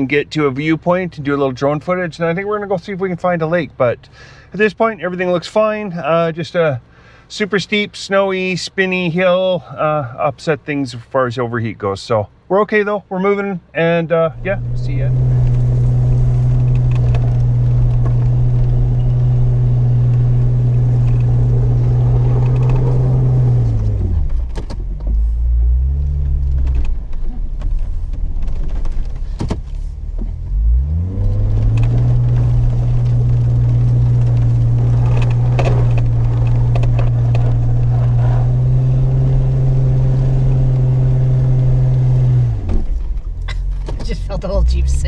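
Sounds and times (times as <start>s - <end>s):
car engine droning: 0.0s - 45.0s.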